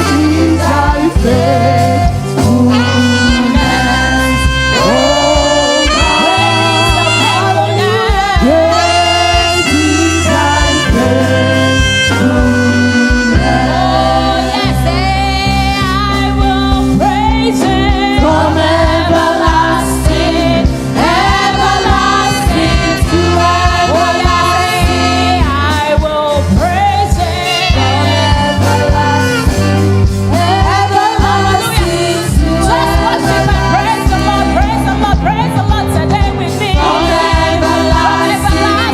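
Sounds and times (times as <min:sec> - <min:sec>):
group singing worship song: 0:00.0 - 0:38.9
instrumental backing: 0:00.0 - 0:38.9.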